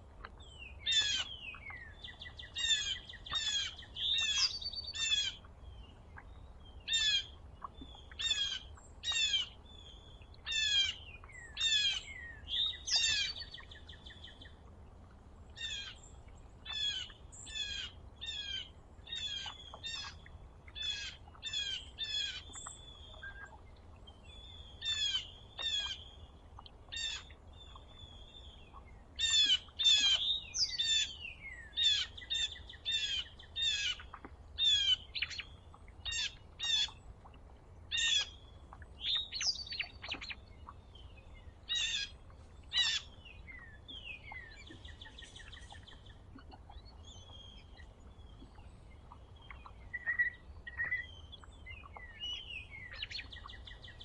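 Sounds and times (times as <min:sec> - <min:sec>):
small songbirds chirping: 0:00.0 - 0:37.2, 0:37.9 - 0:54.0.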